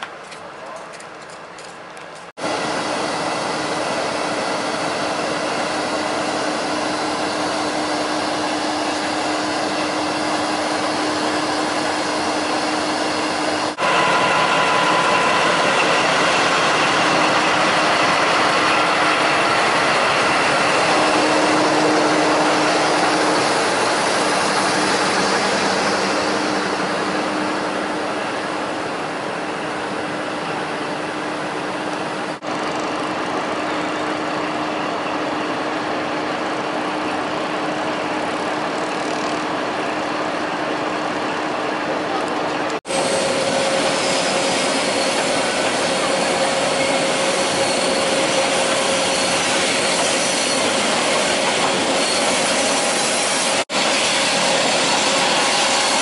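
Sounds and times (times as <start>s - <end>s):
diesel locomotive droning: 1.6s - 56.0s.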